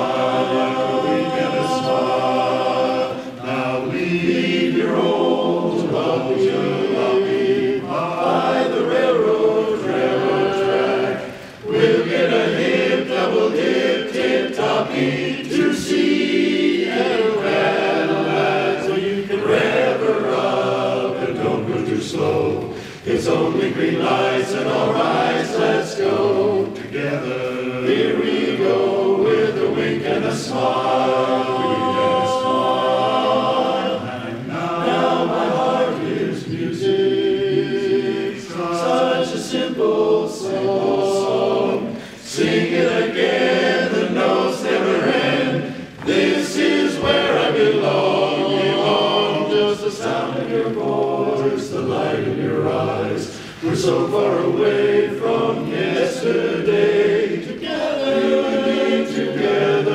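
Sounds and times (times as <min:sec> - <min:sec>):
men's chorus singing a cappella: 0:00.0 - 0:59.9.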